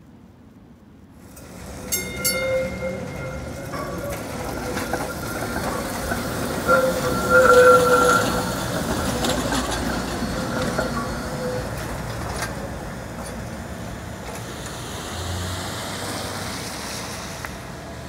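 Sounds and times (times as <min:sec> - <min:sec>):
trolley car rolling past: 0:01.1 - 0:18.0.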